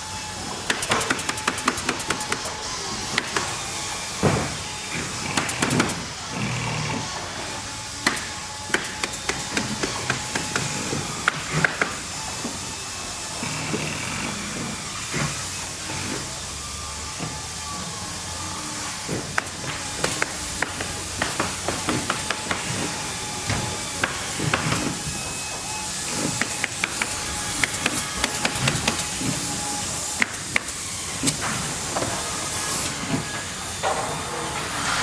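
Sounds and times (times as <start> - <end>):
hiss of running machinery: 0.0 - 35.0.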